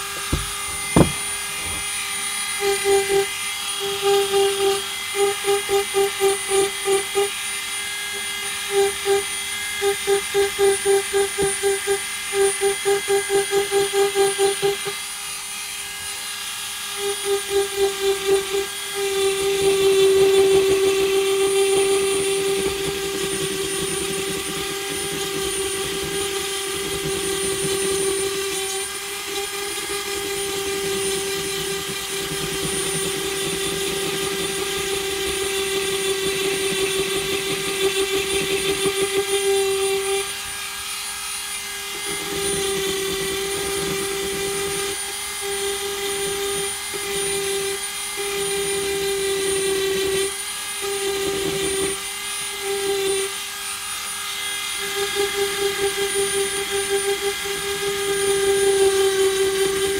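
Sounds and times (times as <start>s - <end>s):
rotary tool whining: 0.0s - 59.9s.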